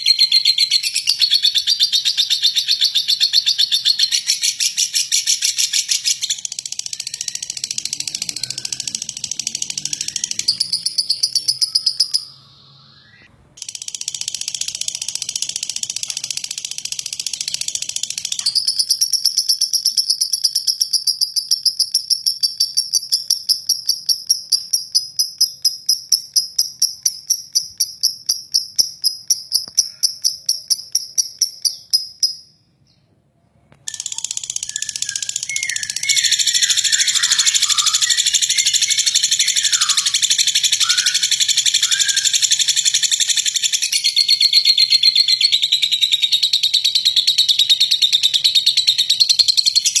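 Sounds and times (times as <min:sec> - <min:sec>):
high bird chattering and chirps: 0:00.0 - 0:32.6, 0:33.9 - 0:50.0
lovebird rattling trill: 0:00.2 - 0:12.3, 0:13.6 - 0:32.5, 0:33.9 - 0:50.0.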